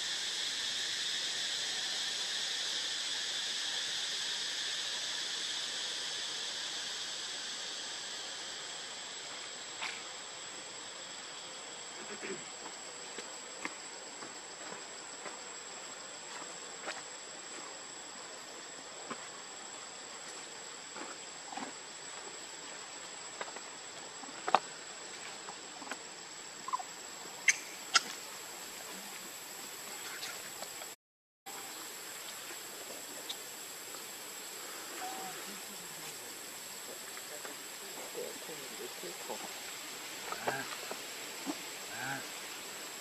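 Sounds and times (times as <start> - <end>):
faint hiss: 0.0 - 43.0
high insect whine: 0.0 - 43.0.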